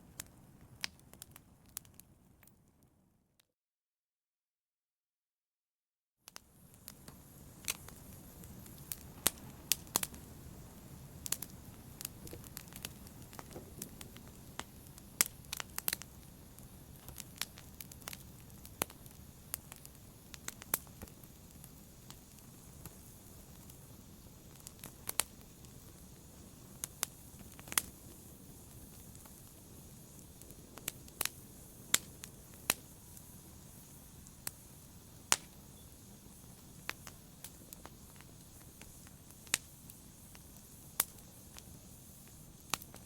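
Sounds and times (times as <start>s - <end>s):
wood fire crackling: 0.0s - 2.7s, 6.3s - 43.0s
low rumble of burning fire: 0.0s - 3.0s, 6.3s - 43.0s
fire pops and snaps: 0.1s - 2.6s, 6.3s - 43.0s.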